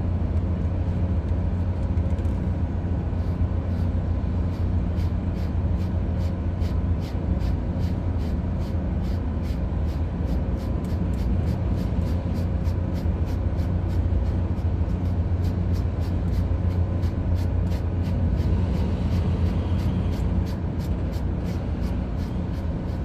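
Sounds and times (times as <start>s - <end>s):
ship machinery humming: 2.7s - 23.0s.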